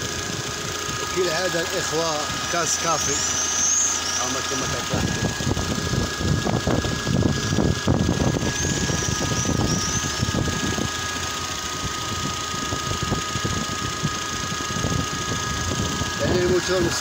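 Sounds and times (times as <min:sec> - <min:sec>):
petrol engine idling: 0:00.0 - 0:17.0.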